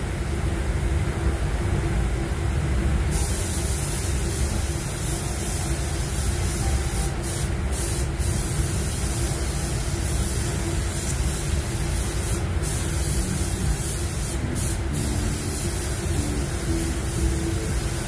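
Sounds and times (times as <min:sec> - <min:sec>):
paint spray gun hissing: 0:03.1 - 0:18.0.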